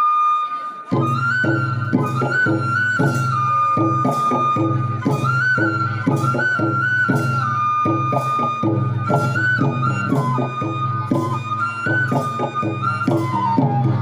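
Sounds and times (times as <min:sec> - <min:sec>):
bamboo flute melody: 0:00.0 - 0:14.0
repeating drum rhythm: 0:00.9 - 0:14.0.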